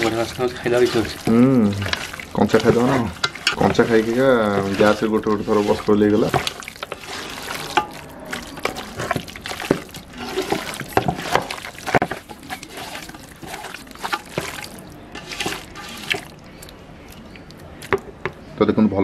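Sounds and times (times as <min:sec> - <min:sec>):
wet squelches of marinated meat: 0:00.0 - 0:18.5.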